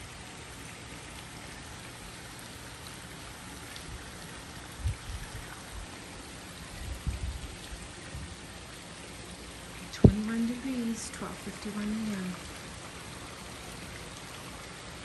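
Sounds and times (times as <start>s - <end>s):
patter and hiss of sleet: 0.0s - 15.0s.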